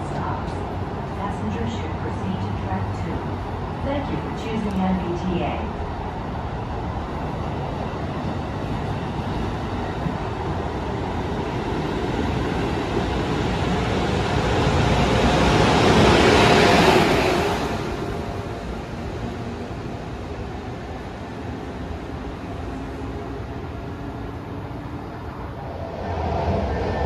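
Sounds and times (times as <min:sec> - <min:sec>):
train passing at speed: 0:00.0 - 0:27.0.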